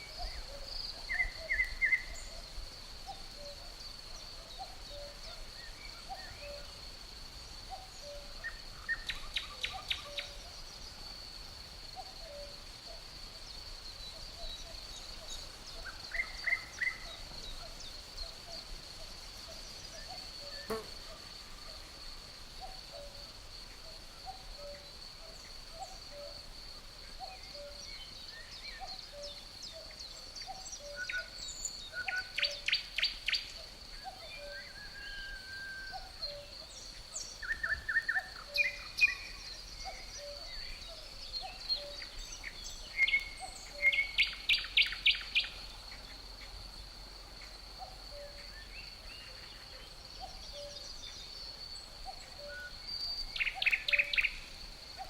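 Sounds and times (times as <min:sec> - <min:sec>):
cricket trill: 0:00.0 - 0:55.0
songbirds singing: 0:00.0 - 0:55.0.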